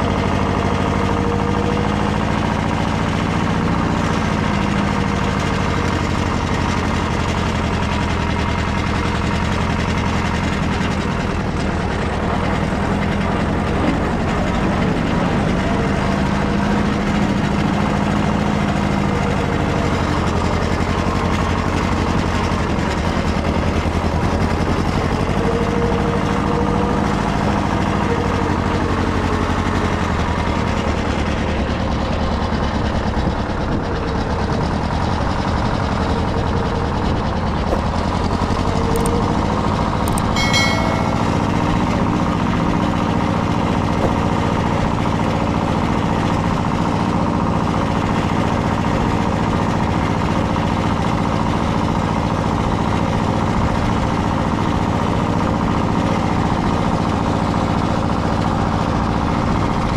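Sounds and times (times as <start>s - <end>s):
small tractor engine running: 0.0s - 59.9s.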